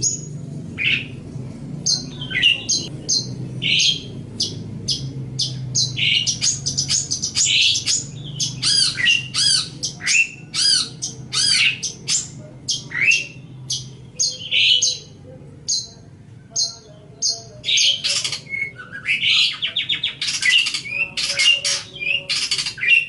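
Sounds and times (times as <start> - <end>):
bird chattering song: 0.0 - 23.0.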